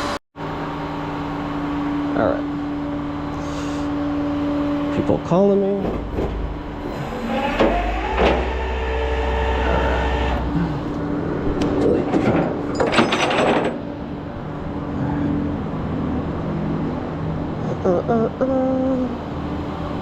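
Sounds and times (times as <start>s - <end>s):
vehicle engine rumble: 0.0s - 8.8s, 9.6s - 20.0s.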